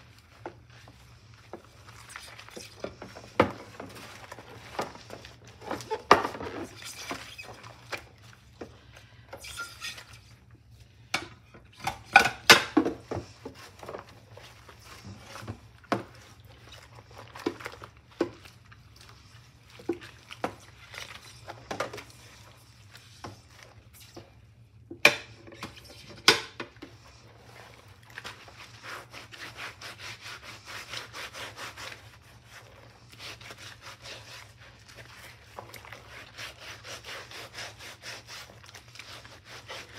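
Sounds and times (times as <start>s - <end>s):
sponge scrubbing plates: 0.0s - 10.4s, 11.7s - 39.9s.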